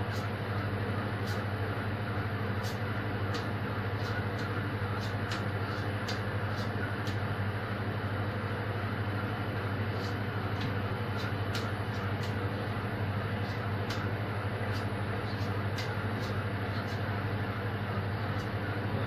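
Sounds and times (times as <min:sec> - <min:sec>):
kitchen equipment humming: 0:00.0 - 0:19.0.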